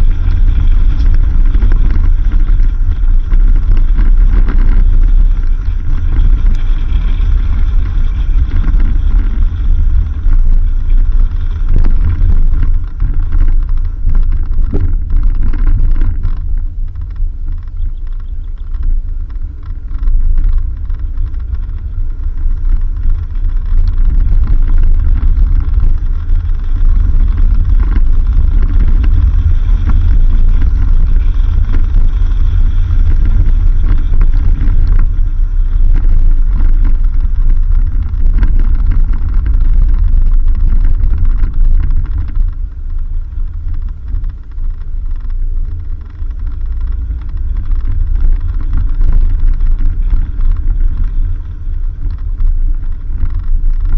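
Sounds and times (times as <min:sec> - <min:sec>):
vehicle on dirt road rumble: 0:00.0 - 0:53.9.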